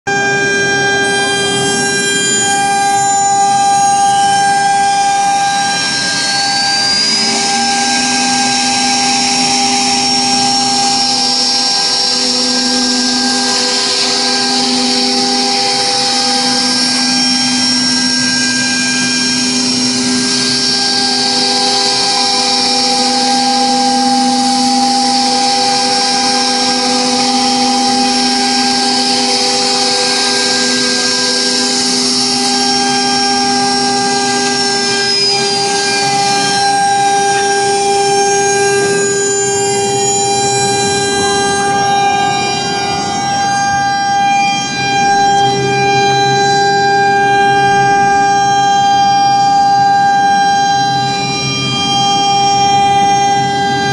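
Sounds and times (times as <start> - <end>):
router cutting wood: 0.0 - 53.9
router spindle high whine: 0.0 - 53.9.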